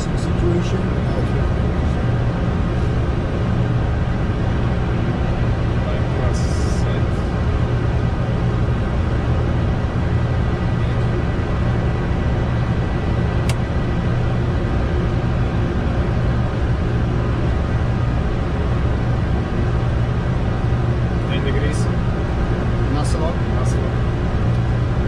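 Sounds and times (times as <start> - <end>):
aircraft engines and airflow rumble: 0.0 - 25.0.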